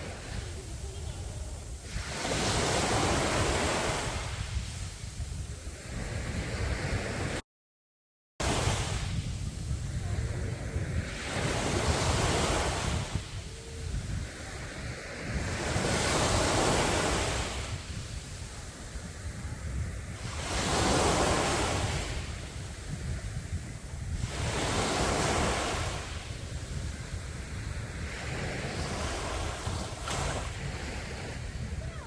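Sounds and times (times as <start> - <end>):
waves breaking on a beach: 0.0 - 7.4, 8.4 - 32.0.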